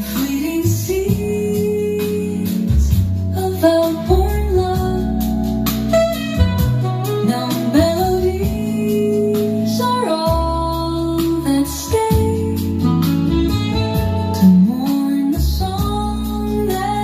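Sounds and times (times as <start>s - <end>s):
song over speakers: 0.0s - 17.0s.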